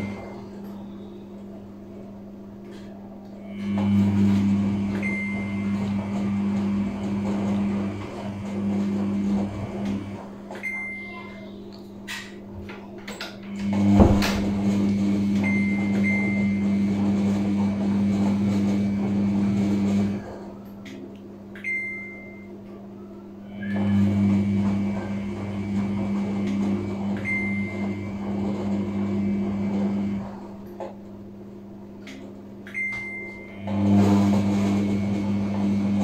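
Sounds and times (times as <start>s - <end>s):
washing machine drum motor hum: 0.0s - 22.8s, 23.4s - 36.0s.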